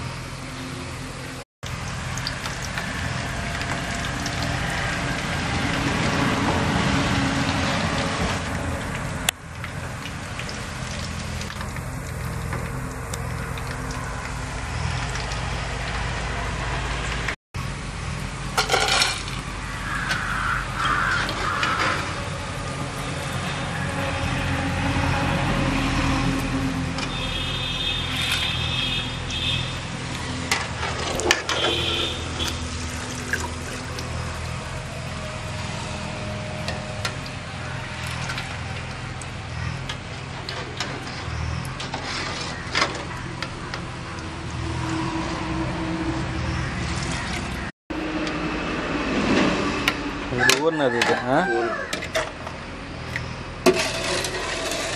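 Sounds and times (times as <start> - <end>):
batter deep-frying in oil: 1.6 - 47.7.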